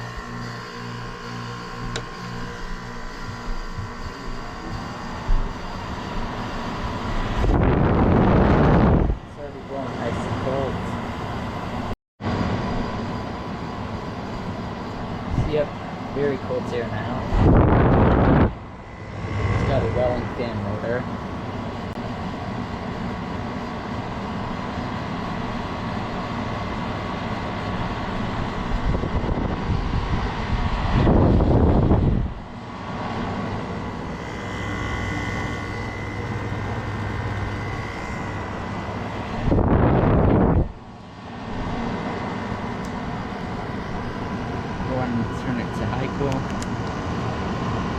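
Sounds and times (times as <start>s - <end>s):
air conditioner humming: 0.0s - 47.9s
loud whoosh of noise: 1.8s - 47.9s.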